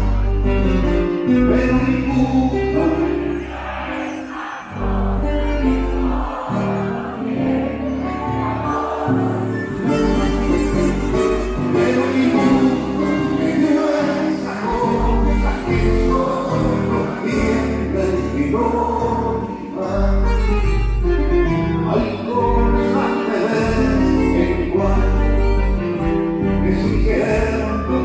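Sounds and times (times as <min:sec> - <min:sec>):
live band playing: 0:00.0 - 0:28.0
person singing: 0:01.2 - 0:20.7, 0:21.8 - 0:28.0.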